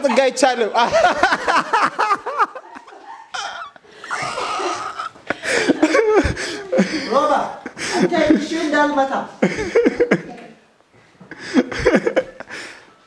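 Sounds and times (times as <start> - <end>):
people laughing: 0.0 - 8.7, 9.4 - 10.4, 11.3 - 12.7.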